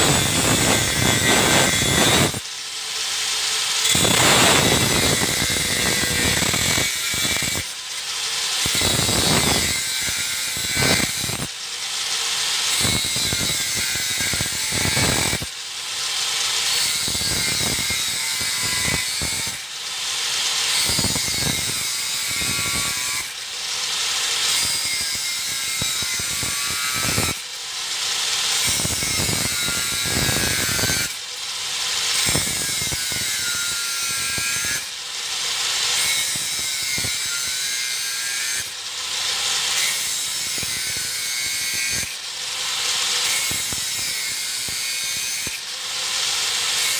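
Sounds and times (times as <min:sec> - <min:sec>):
angle grinder cutting metal: 0:00.0 - 0:46.9.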